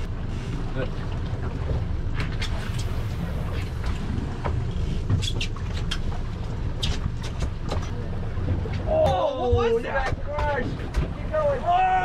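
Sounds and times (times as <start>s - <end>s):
boat engine rumble: 0.0s - 12.0s.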